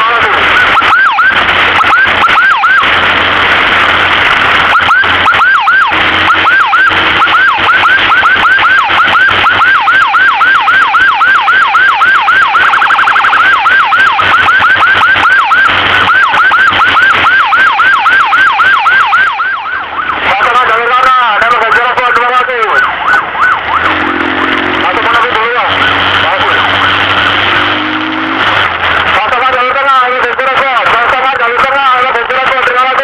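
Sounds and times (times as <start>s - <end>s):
electronic siren yelping: 0.0s - 30.1s.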